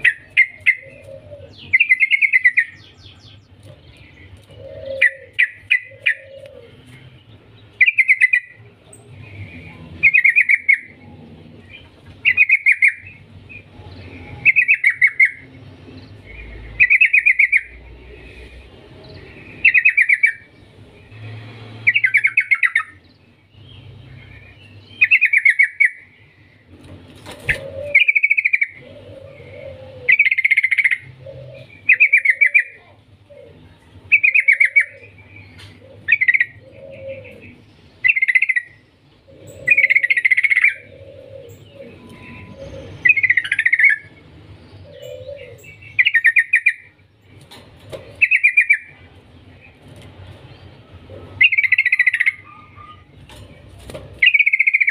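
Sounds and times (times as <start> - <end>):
bird singing chattering phrases: 0.0 - 54.9.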